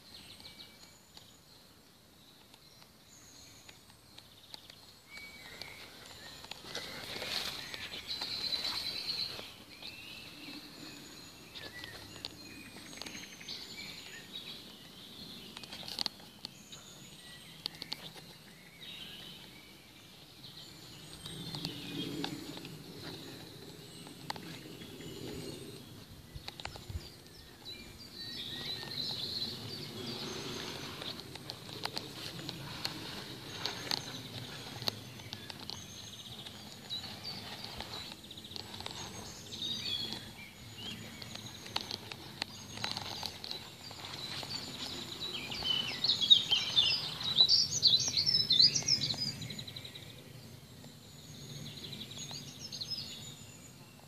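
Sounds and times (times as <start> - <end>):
birds singing and chirping: 0.0 - 54.0.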